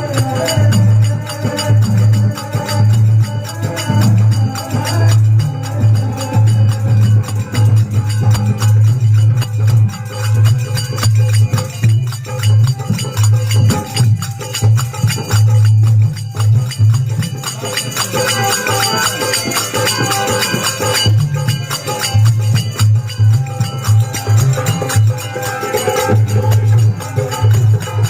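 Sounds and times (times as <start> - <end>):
hand drum rhythm: 0.0 - 28.0
jingling hand percussion: 0.0 - 28.0.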